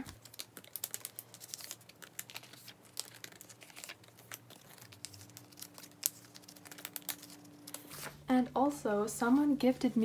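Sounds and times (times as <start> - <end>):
plastic sleeves crinkling: 0.0 - 10.0.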